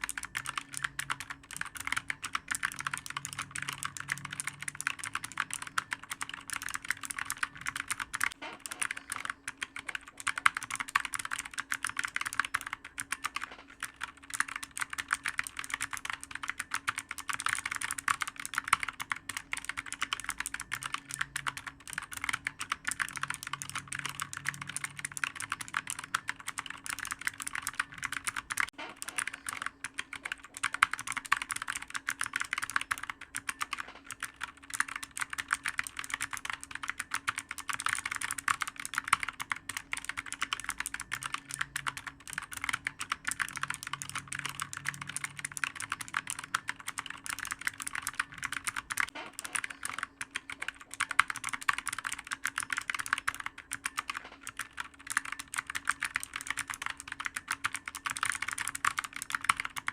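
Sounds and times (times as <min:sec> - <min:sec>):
fast typing on clicky keyboard: 0:00.0 - 0:59.9.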